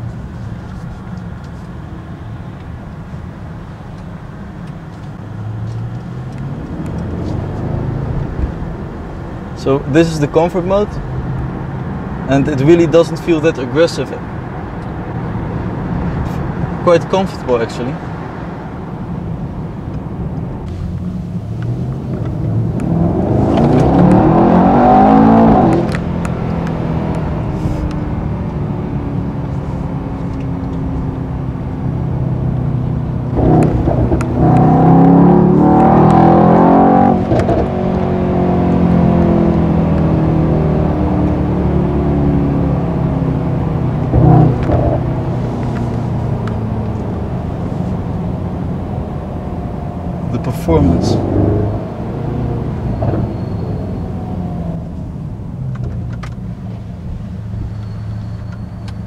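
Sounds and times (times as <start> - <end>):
car engine accelerating: 4.4 - 17.1, 18.0 - 59.0.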